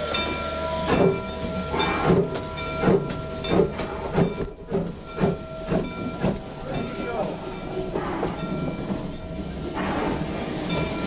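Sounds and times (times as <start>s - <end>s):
steam hissing: 0.0s - 11.0s
steam locomotive chuffing: 0.0s - 11.0s.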